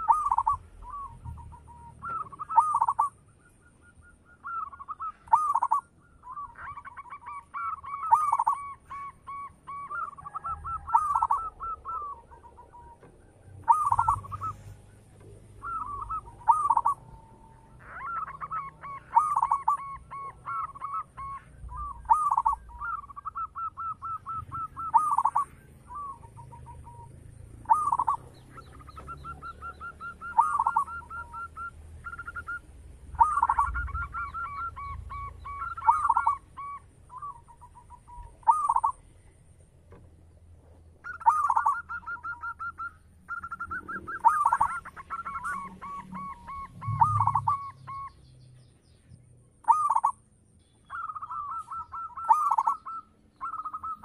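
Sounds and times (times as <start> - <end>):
dove cooing song: 0.0 - 40.0, 40.6 - 48.3, 49.6 - 50.2, 50.8 - 54.0
faint high chirp: 0.0 - 40.4, 41.0 - 54.0.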